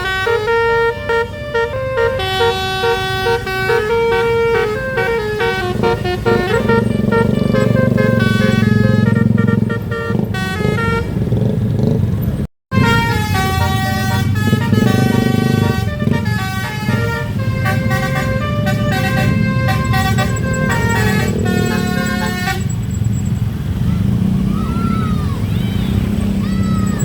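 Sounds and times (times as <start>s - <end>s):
bus horn playing a melody: 0.0s - 11.6s, 12.7s - 23.0s.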